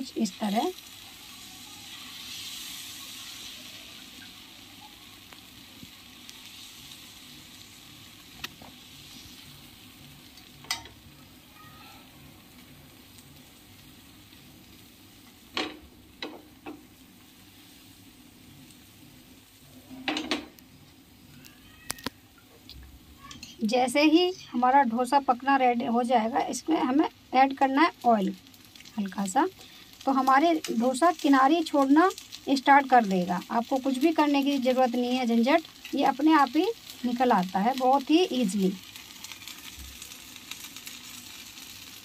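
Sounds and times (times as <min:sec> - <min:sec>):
batter sizzling on a griddle: 0:00.0 - 0:42.0.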